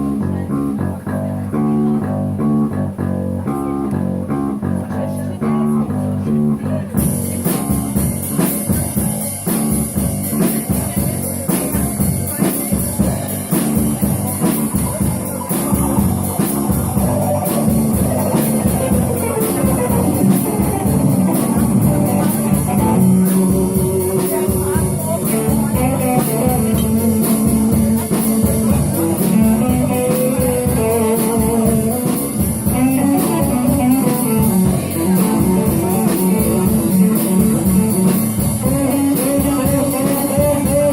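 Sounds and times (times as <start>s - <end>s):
blues-rock guitar: 0.0s - 40.9s
drum kit beat: 0.0s - 40.9s.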